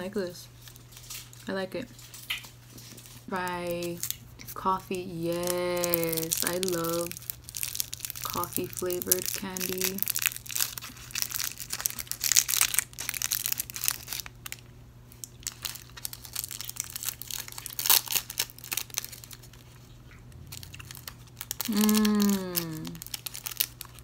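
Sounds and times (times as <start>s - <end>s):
candy wrapper crinkling: 0.6s - 24.0s.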